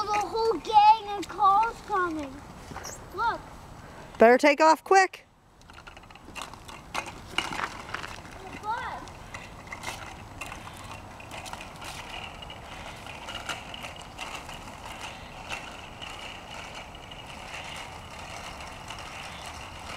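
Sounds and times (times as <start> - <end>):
bicycle rolling on asphalt: 0.0 - 19.9.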